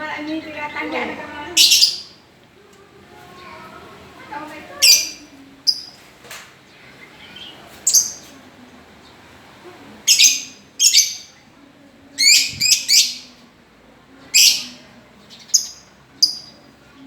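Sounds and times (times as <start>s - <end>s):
lovebirds chirping: 0.0s - 2.3s, 3.3s - 13.4s, 14.2s - 17.0s.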